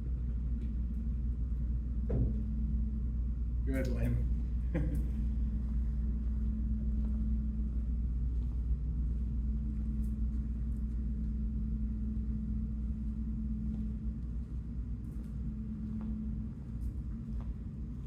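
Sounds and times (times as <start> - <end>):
constant hum: 0.0 - 18.0
low rumble: 0.0 - 18.0.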